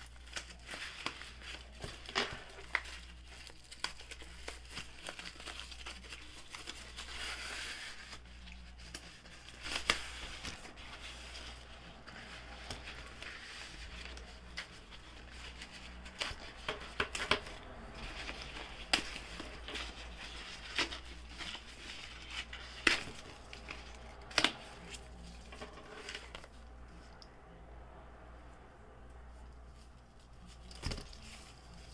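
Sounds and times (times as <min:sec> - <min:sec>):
tissue paper rustling: 0:00.0 - 0:27.1, 0:29.3 - 0:31.9.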